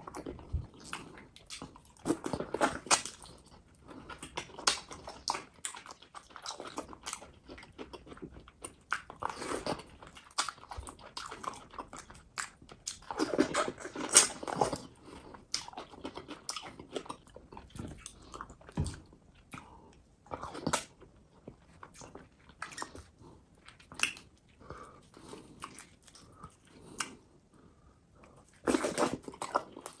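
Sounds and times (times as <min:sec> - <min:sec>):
wet chewing and biting: 0:00.0 - 0:27.3, 0:28.4 - 0:30.0.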